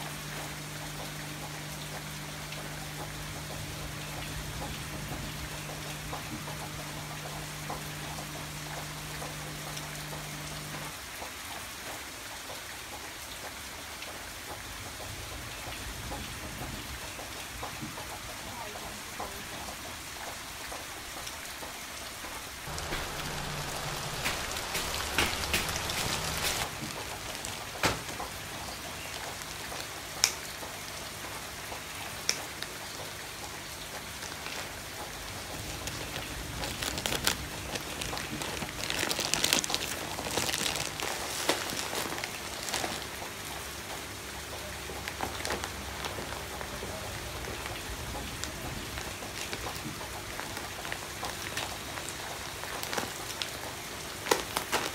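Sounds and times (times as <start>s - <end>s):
rain pattering: 0.0s - 54.9s.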